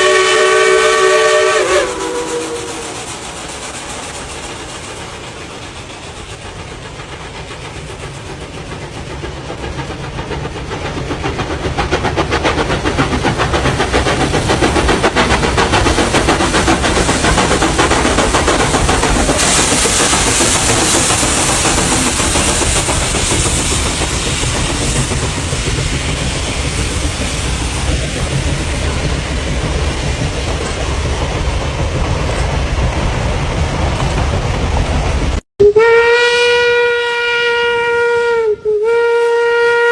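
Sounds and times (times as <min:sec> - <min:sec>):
train wheels clattering on rails: 0:00.0 - 0:35.4.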